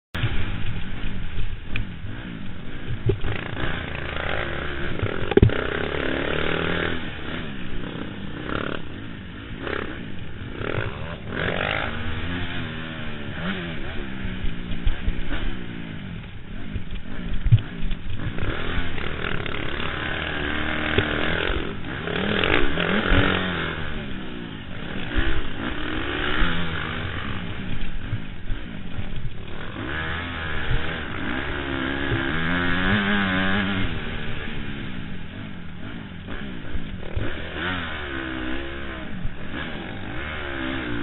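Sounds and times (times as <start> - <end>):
motocross bike engine revving: 0.2 - 41.0.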